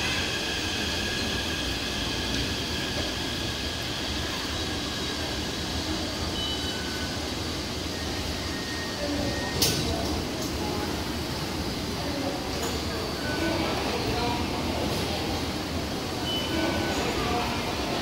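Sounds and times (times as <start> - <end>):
trains humming at station: 0.0 - 18.0.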